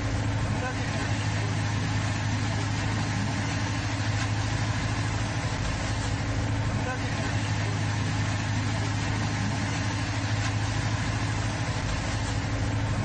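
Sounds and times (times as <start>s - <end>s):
boat engine droning: 0.0s - 13.0s
constant hiss: 0.0s - 13.0s.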